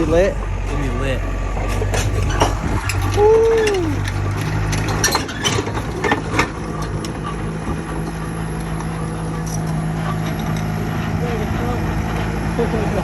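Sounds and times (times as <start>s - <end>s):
metallic clanks and knocks: 0.0s - 12.4s
heavy diesel engine running: 0.0s - 13.0s.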